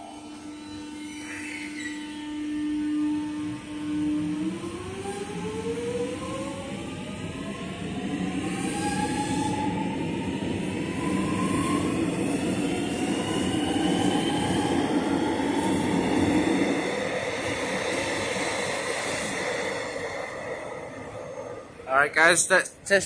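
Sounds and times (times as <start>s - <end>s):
train rumbling on rails: 3.0s - 23.0s.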